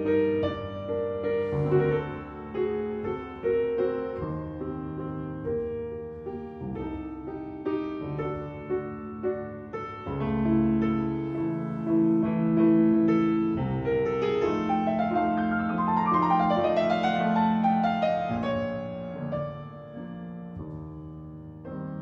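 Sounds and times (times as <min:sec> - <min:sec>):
gentle solo piano: 0:00.0 - 0:22.0.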